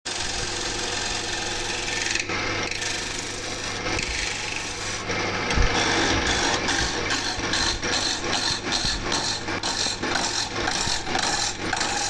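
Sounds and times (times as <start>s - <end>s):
tool rasping on wood: 0.1s - 5.0s, 5.7s - 12.0s.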